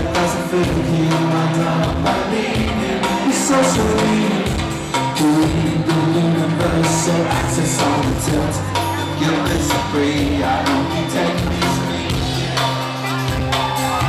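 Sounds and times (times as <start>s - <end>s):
person singing: 0.0s - 14.0s
rock band playing live: 0.0s - 14.0s.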